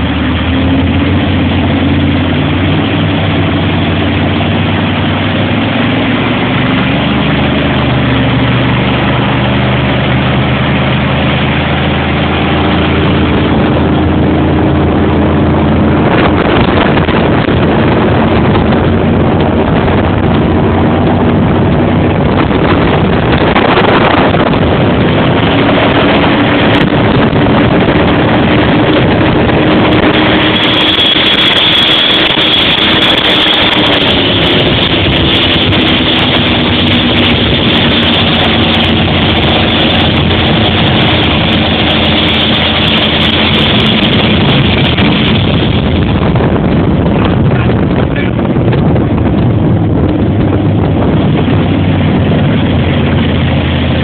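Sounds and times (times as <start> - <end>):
motorboat engine running: 0.0 - 54.0
rushing noise: 0.0 - 54.0.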